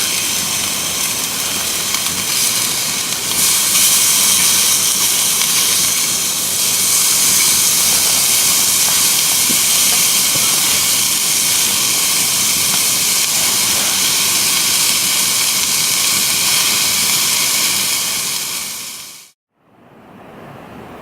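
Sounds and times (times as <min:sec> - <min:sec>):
loud steady rushing hiss: 0:00.0 - 0:19.4.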